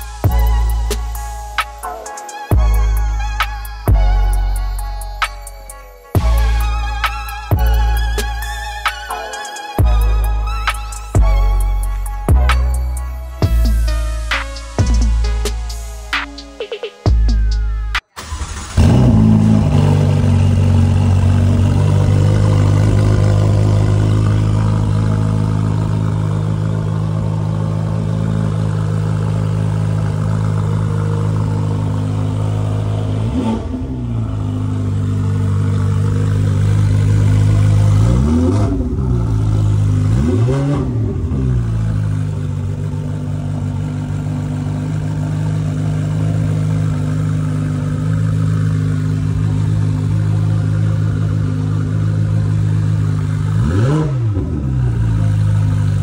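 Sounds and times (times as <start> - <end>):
car engine idling: 0.0 - 56.0
engine throttle blips: 9.8 - 56.0.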